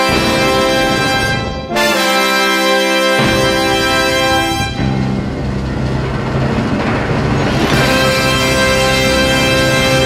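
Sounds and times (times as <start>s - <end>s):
orchestral music with held chords: 0.0s - 10.0s.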